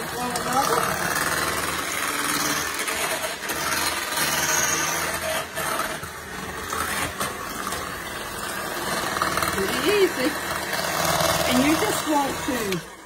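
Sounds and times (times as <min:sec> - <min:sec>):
electric hand mixer whirring: 0:00.0 - 0:13.0.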